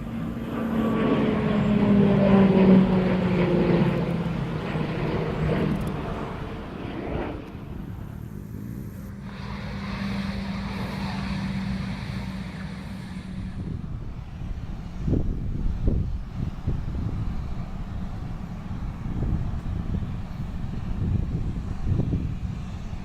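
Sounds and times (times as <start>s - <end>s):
aircraft engine drone: 0.0s - 23.0s.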